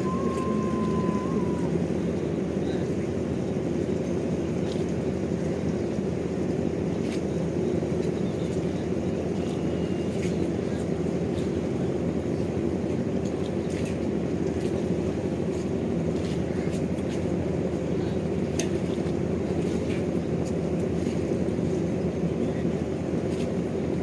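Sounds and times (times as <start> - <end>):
boat engine rumbling: 0.0 - 24.0.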